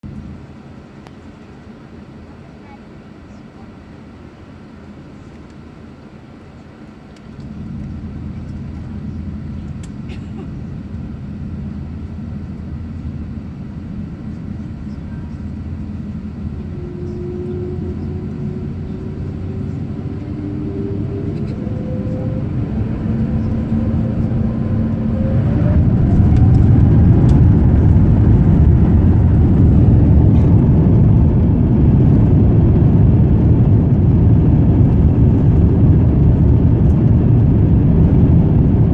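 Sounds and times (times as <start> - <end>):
jet engine rumble: 0.0 - 38.9
rising engine whine: 7.2 - 38.9.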